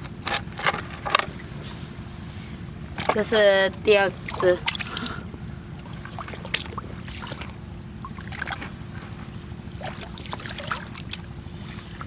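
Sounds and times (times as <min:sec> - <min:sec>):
steady low rumble: 0:00.0 - 0:12.0
seawater trickling and splashing: 0:01.0 - 0:12.0.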